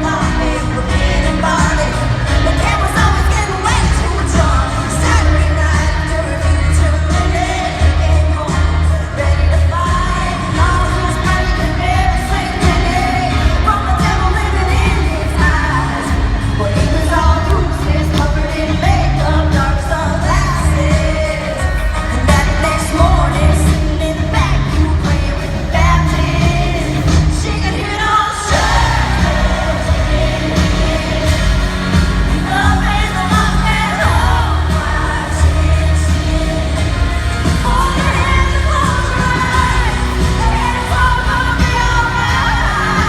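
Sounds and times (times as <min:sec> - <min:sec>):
heavy pulsing bass: 0:00.0 - 0:21.3, 0:28.5 - 0:43.0
live band playing country-pop: 0:00.0 - 0:43.0
woman singing: 0:00.0 - 0:43.0.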